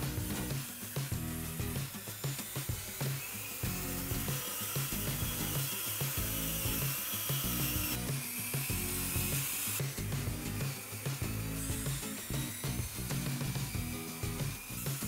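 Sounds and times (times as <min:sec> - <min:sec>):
background music with bass line: 0:00.0 - 0:15.0
toy electric motor whirring: 0:00.0 - 0:15.0.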